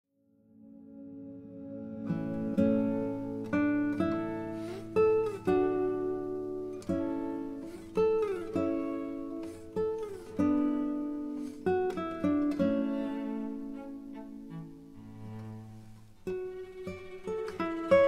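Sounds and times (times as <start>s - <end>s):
acoustic guitar playing: 0.4s - 18.0s.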